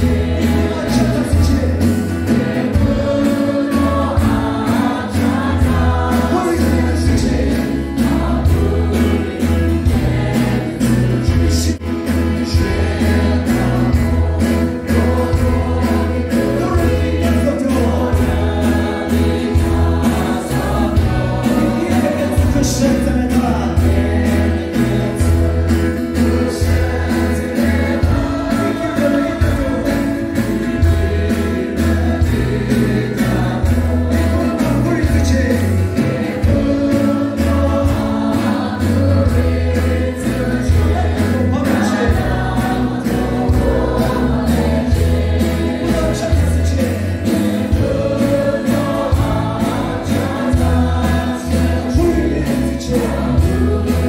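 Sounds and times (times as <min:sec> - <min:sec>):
acoustic guitar: 0:00.0 - 0:54.0
congregation singing: 0:00.0 - 0:54.0
keyboard: 0:00.0 - 0:54.0
lead singers on microphones: 0:00.0 - 0:54.0
steady drum beat: 0:00.0 - 0:54.0.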